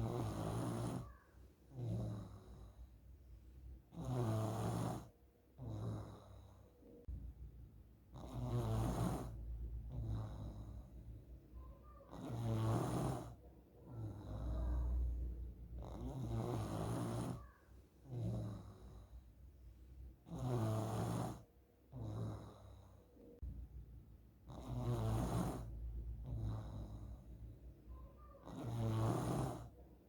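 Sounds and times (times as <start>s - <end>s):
child snoring: 0.0s - 3.0s, 3.9s - 6.8s, 8.1s - 19.4s, 20.2s - 23.2s, 24.4s - 29.8s.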